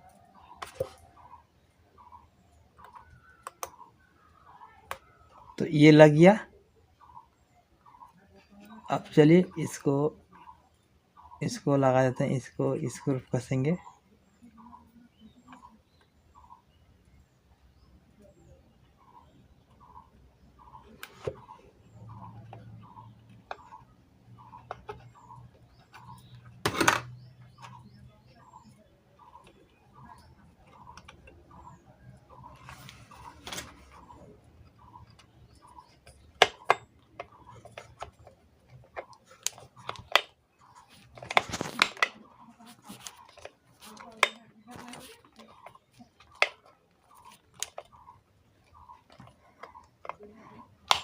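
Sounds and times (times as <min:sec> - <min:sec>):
bird chirps: 0:00.0 - 0:51.0.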